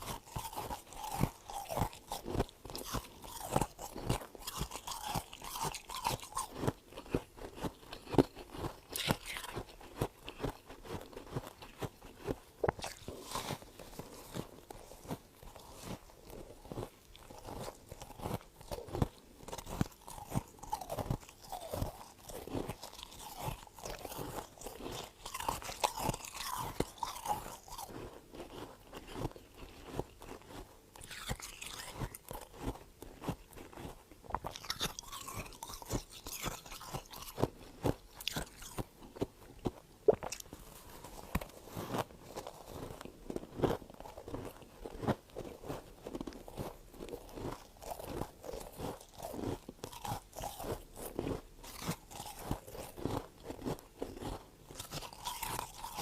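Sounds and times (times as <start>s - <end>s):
frost being bitten and chewed: 0.0s - 56.0s.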